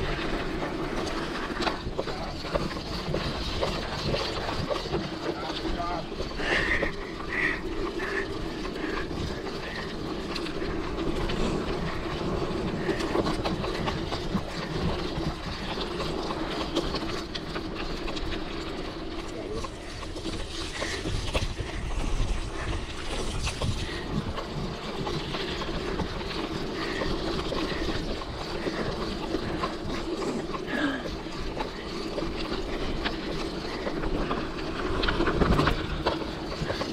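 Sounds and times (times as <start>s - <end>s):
bike clicks and rattles: 0.0s - 36.9s
bike tyres rumbling on dirt: 0.0s - 36.9s.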